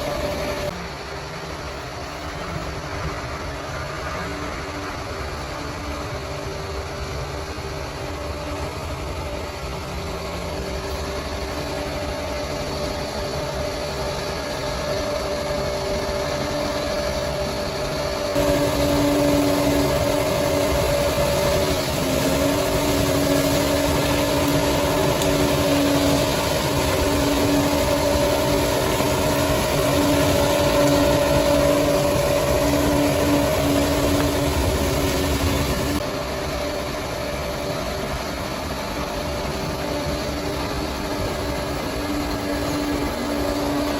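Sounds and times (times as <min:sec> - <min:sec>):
bulldozer diesel engine droning: 0:00.0 - 0:43.9.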